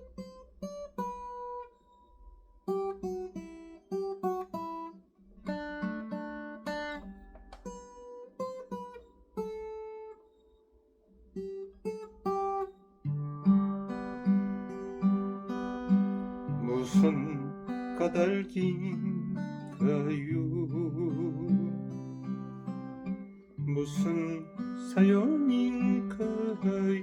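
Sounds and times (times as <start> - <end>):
acoustic guitar melody: 0.0 - 27.0.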